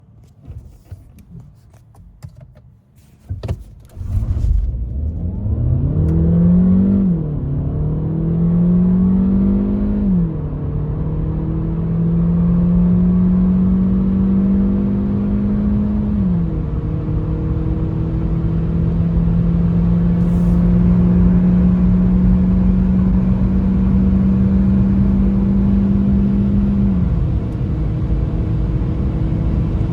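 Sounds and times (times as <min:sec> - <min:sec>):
car engine accelerating: 0:03.9 - 0:29.9.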